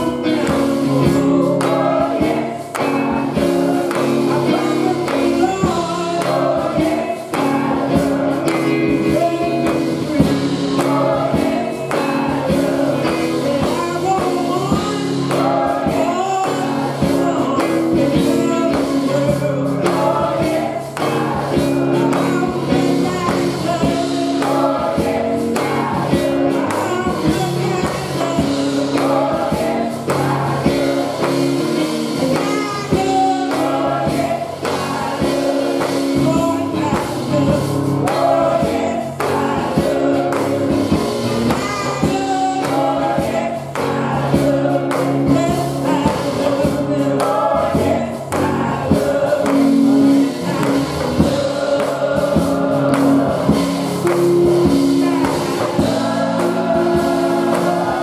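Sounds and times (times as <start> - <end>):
instrumental accompaniment: 0.0 - 58.0
lead singer on microphone: 0.0 - 58.0
women's gospel choir singing: 0.0 - 58.0.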